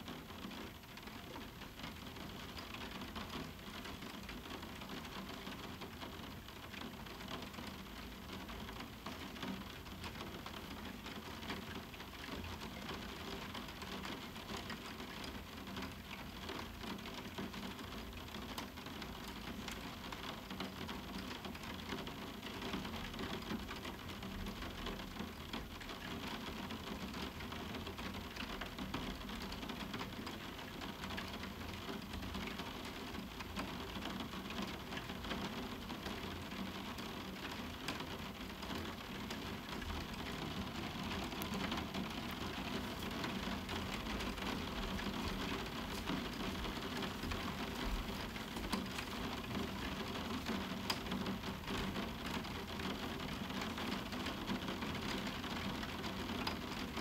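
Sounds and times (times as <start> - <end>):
rain pattering on a skylight: 0.0 - 57.0.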